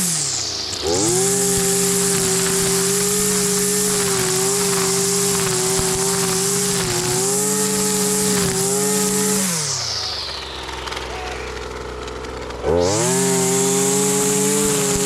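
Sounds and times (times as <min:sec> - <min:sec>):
string trimmer engine running: 0:00.0 - 0:15.0.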